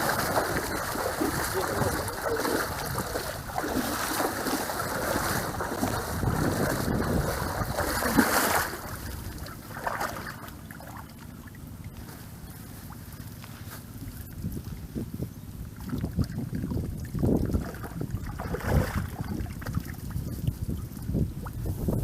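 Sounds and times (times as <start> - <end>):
swamp water sloshing and splashing: 0.0 - 22.0.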